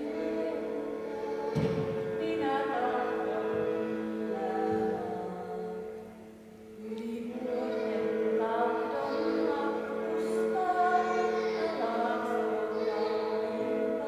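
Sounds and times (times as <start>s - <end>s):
woman singing: 0.0s - 6.0s, 6.8s - 14.0s
bowed lyre drone: 0.0s - 14.0s.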